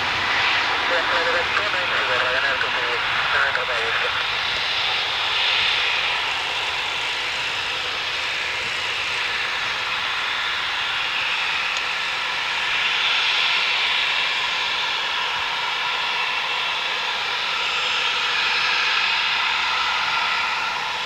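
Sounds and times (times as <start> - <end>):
jet engines at takeoff thrust: 0.0 - 21.0.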